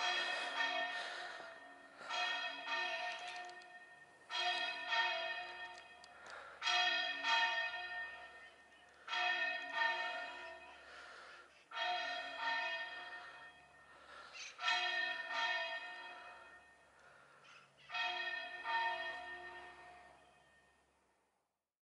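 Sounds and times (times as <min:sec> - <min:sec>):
church bells ringing: 0:00.0 - 0:21.1.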